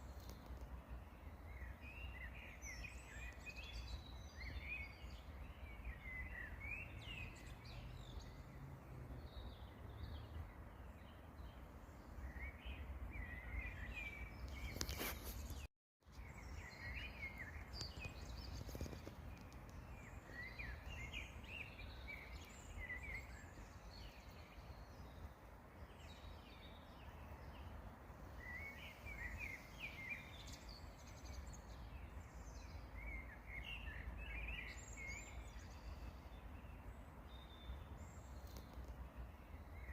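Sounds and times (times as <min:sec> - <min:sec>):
songbirds chirping faintly: 0:00.0 - 0:39.9.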